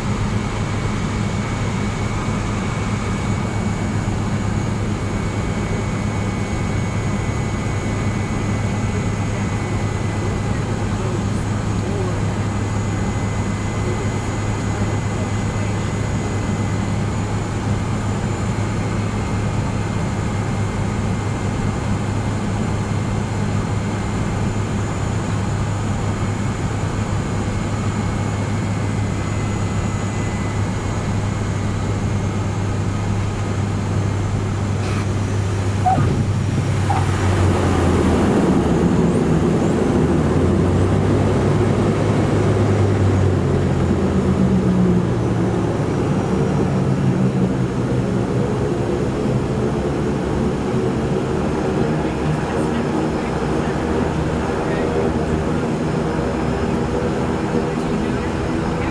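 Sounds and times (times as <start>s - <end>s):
turboprop engines droning: 0.0s - 58.9s.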